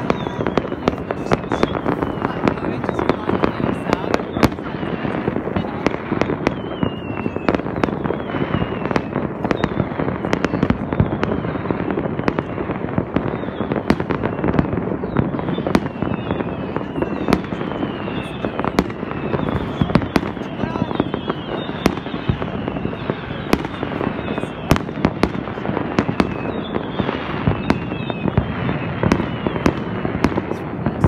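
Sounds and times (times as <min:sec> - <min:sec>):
fireworks crackling and banging: 0:00.0 - 0:31.0
fireworks whistles falling in pitch: 0:00.0 - 0:31.0.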